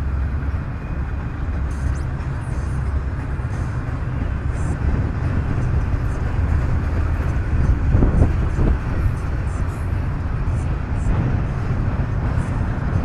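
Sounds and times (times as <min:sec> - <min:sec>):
freight train rumbling on rails: 0:00.0 - 0:13.0.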